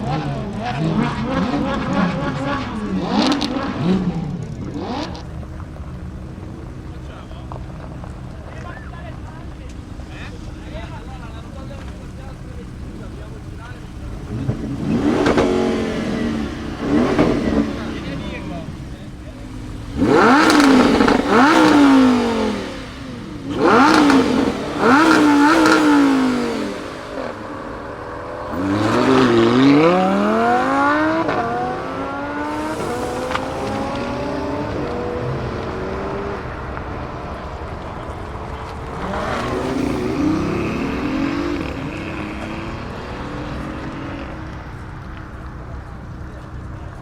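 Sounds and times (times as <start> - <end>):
car accelerating hard: 0.0 - 47.0
car engine revving: 0.0 - 47.0.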